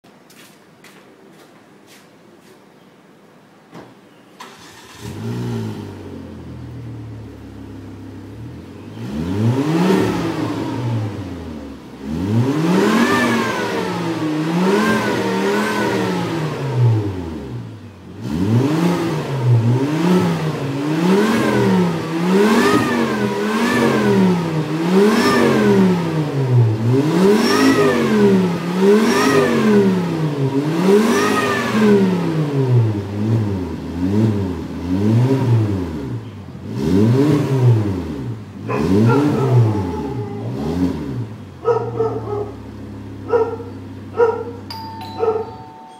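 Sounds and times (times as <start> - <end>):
car engine revving: 4.4 - 45.5.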